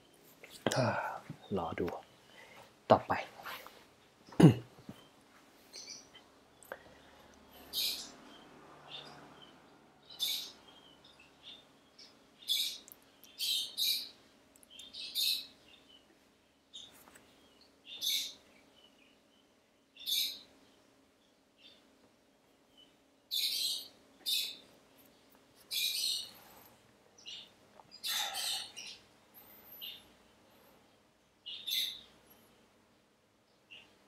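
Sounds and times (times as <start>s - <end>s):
birds chirping: 0.0s - 34.0s
faint steady hum: 0.0s - 34.0s.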